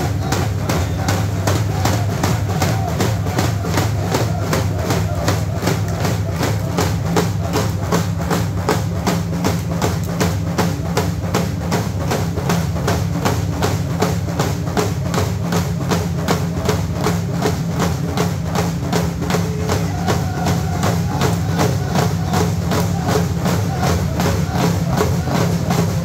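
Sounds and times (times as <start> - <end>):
frame drums beating: 0.0 - 26.0.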